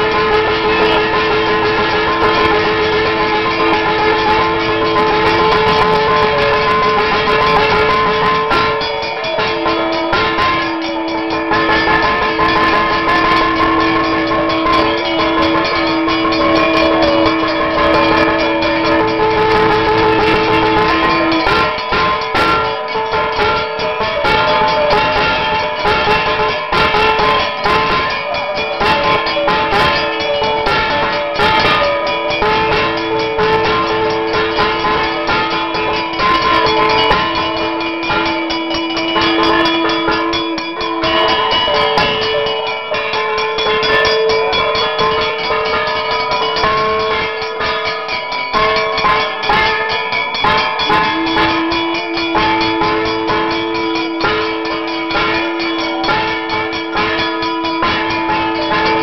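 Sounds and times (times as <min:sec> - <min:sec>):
brass hand bell ringing: 0:00.0 - 0:59.0
drumming: 0:00.0 - 0:59.0
long held notes: 0:00.0 - 0:59.0.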